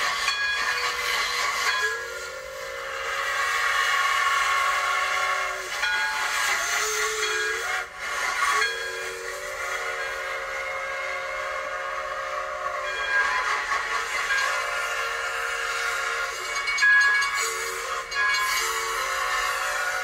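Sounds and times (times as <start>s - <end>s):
hissing steam: 0.0s - 20.0s
steam train whistle: 0.0s - 20.0s.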